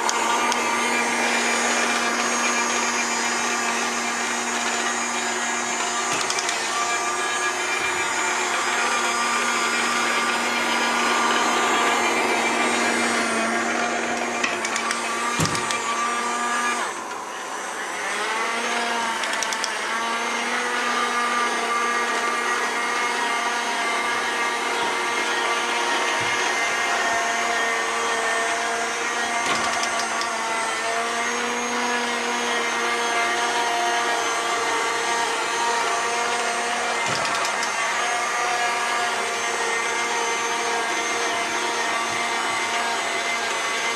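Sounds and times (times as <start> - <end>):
robot vacuum motor whine: 0.0 - 43.9.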